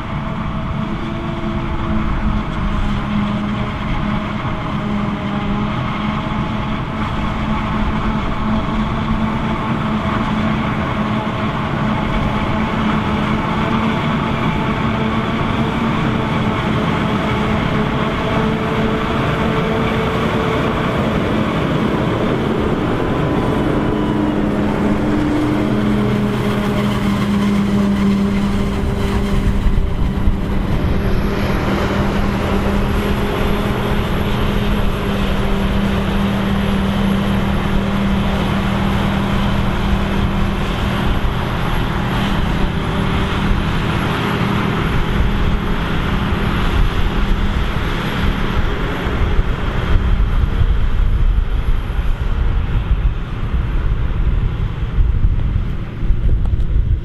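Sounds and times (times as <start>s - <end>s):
diesel engines running under load: 0.0s - 57.0s.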